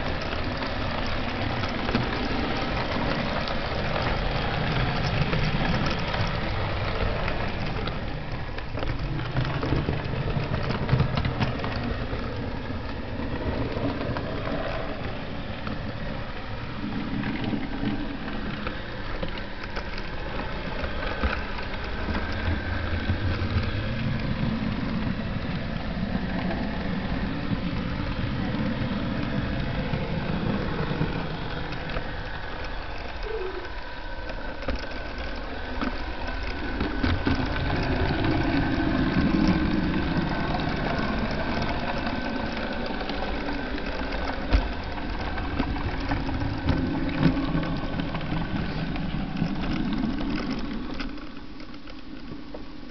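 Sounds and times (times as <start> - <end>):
model train motor hum: 0.0 - 52.9
small clicks and clacks: 0.0 - 52.9.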